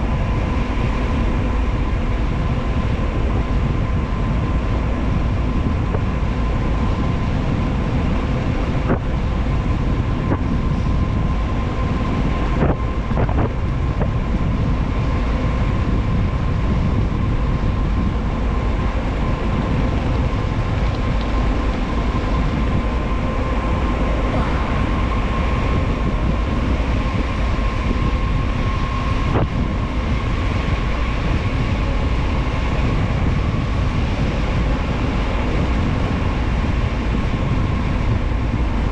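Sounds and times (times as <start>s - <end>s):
steady high whine: 0.0s - 38.9s
wind rush over microphone: 0.0s - 38.9s.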